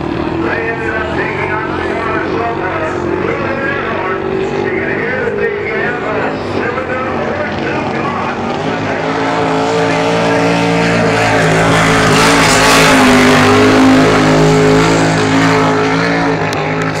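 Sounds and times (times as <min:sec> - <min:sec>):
boat engine at full throttle: 0:00.0 - 0:17.0.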